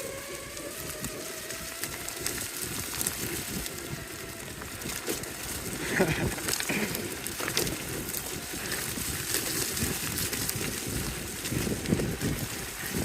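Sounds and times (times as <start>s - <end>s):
faint electric motor whine: 0.0s - 13.0s
gravel and twigs crackling under wheels: 0.0s - 13.0s
skateboard tyres rumbling on dirt: 0.0s - 13.0s.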